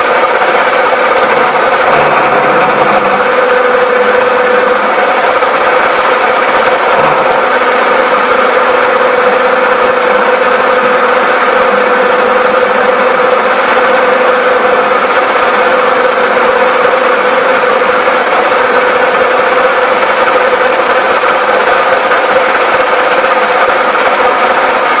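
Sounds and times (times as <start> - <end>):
lathe running: 0.0 - 25.0.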